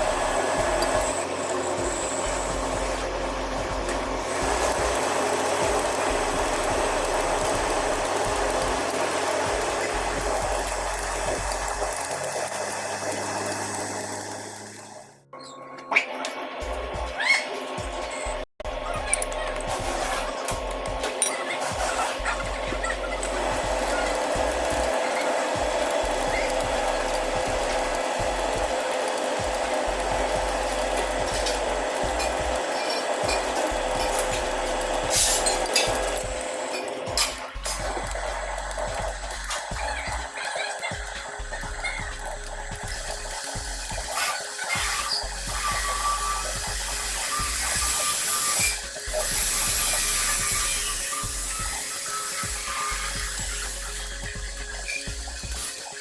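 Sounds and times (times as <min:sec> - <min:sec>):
metal lathe whirring: 0:00.0 - 0:15.3, 0:16.2 - 0:56.0.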